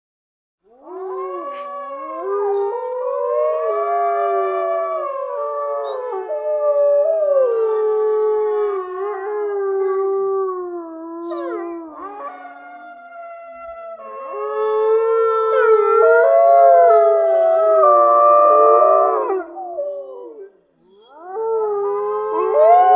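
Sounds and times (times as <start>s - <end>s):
dogs howling: 0.7s - 22.9s.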